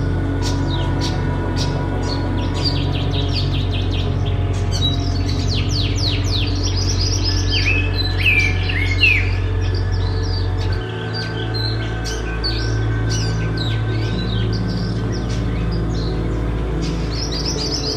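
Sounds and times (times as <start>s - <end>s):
songbirds chirping: 0.0s - 17.9s
steady low drone: 0.0s - 17.9s.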